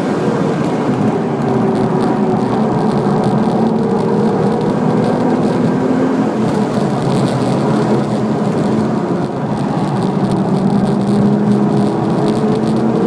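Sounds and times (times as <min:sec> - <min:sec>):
car engine running: 0:00.0 - 0:13.0
road noise inside car: 0:00.0 - 0:13.0.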